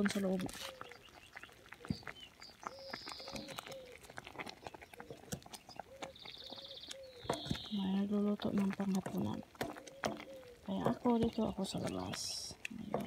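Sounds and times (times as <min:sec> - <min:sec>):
bubbling pops: 0:00.0 - 0:13.0
faint birds chirping: 0:00.0 - 0:13.0
wooden spoon stirring in pot: 0:00.0 - 0:13.0.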